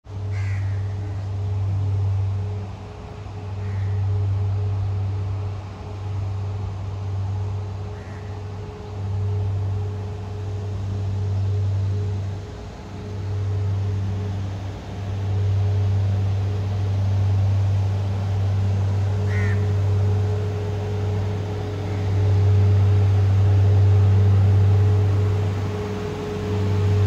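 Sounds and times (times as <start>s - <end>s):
loud low droning hum: 0.0s - 27.0s
steady higher tone: 0.1s - 27.0s.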